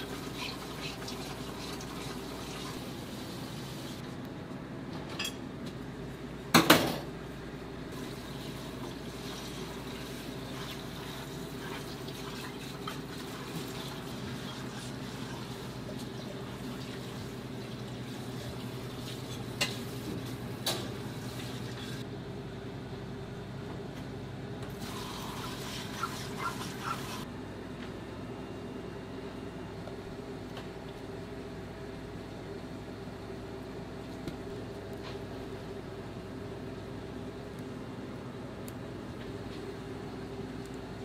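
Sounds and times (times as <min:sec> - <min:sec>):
low kitchen hum: 0:00.0 - 0:41.0.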